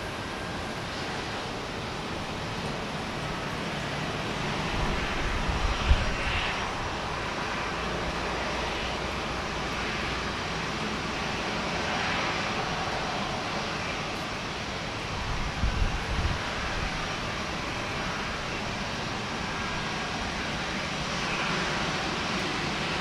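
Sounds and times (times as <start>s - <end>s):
aircraft engines running: 0.0s - 23.0s.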